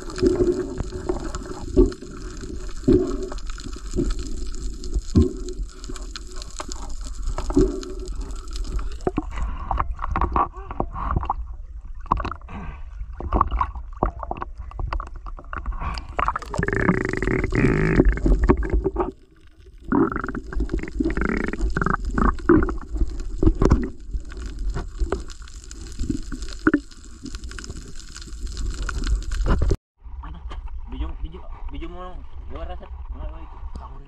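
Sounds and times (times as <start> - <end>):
water sloshing and gurgling: 0.0 - 29.8
low underwater rumble: 0.0 - 30.9.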